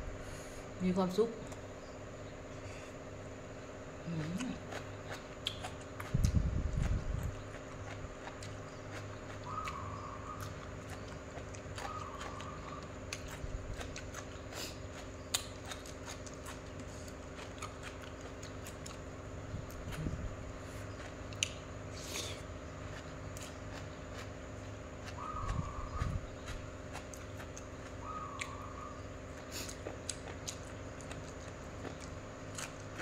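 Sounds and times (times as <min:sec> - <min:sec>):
electric fan hum: 0:00.0 - 0:33.0
chewing with wet clicks: 0:04.1 - 0:21.9, 0:22.6 - 0:33.0.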